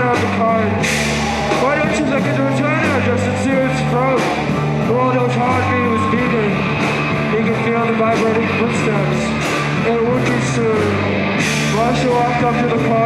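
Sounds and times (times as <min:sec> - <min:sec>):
drums with cymbal hits: 0:00.0 - 0:13.0
electric bass notes: 0:00.0 - 0:13.0
electric guitar bending notes: 0:00.0 - 0:13.0.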